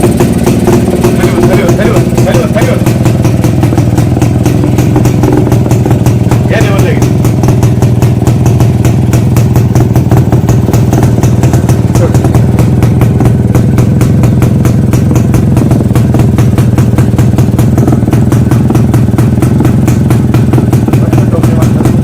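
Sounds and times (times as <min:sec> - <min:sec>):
two-stroke motorcycle engine running: 0:00.0 - 0:22.0.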